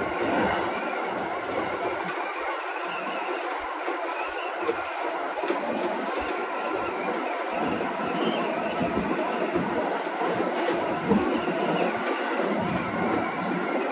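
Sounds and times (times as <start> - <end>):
train wheels on rails: 0.0 - 13.9.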